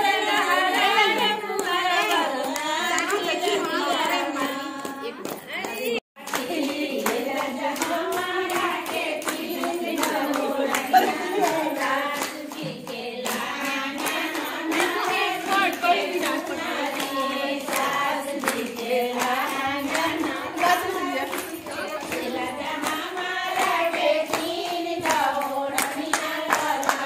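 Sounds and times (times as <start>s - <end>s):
women singing: 0.0s - 27.0s
hand-clapping: 0.1s - 27.0s.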